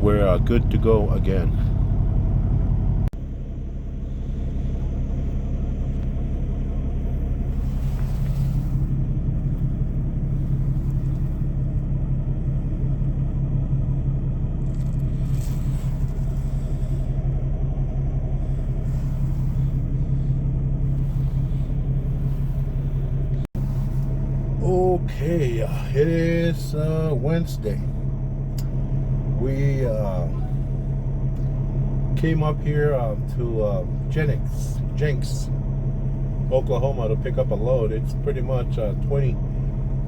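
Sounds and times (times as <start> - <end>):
truck engine rumbling: 0.0 - 40.0.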